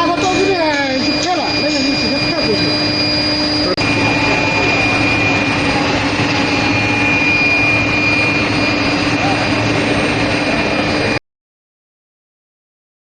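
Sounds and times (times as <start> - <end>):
machine roaring and whining: 0.0 - 11.2.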